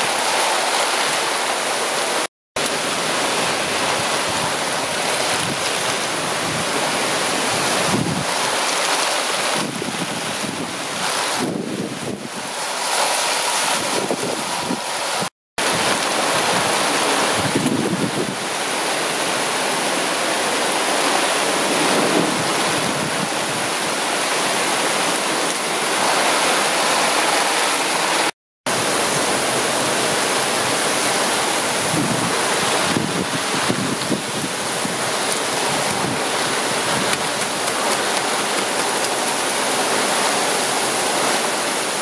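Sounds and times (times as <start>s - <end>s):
gusting wind: 0.0s - 42.0s
heavy rain pouring: 0.0s - 42.0s.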